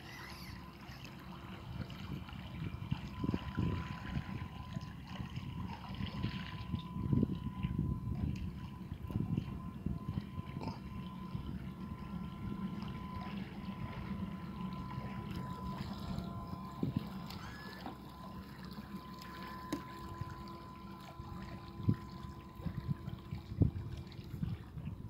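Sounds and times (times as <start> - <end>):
boat motor tone: 0.0 - 25.0
water sounds: 0.0 - 25.0
low rumble: 1.5 - 25.0.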